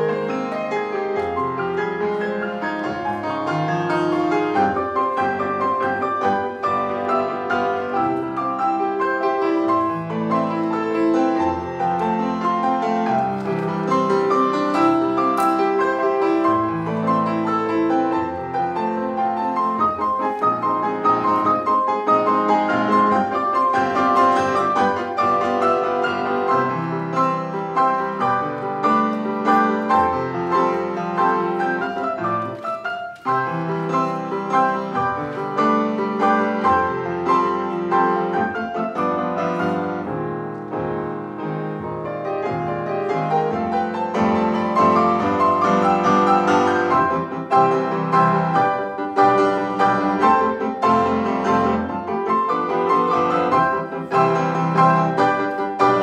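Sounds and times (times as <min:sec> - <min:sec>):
grand piano duet: 0:00.0 - 0:56.0.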